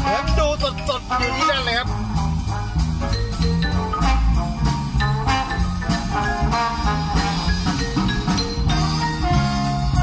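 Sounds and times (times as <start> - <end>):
instrumental music with bass: 0.0 - 10.0.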